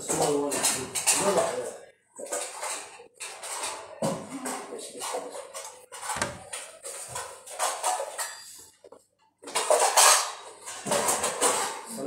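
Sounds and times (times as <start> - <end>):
dishes and cutlery clinking: 0.0 - 12.0.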